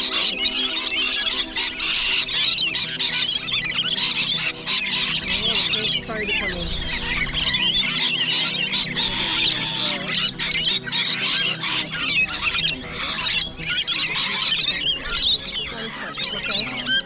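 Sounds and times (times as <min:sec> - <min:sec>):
parrots screeching and chattering: 0:00.0 - 0:17.0.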